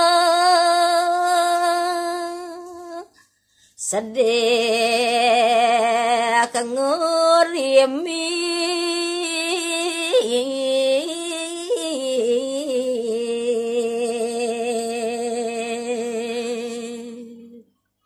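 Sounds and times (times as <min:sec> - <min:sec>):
woman singing unaccompanied: 0:00.0 - 0:03.2, 0:03.8 - 0:17.7.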